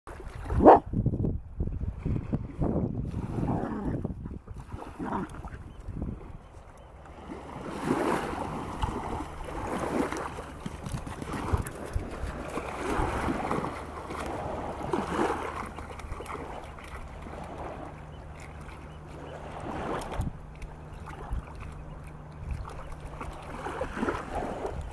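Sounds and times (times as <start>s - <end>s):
seawater splashing and lapping: 0.1s - 1.0s, 1.8s - 24.9s
low steady hum: 0.1s - 24.9s.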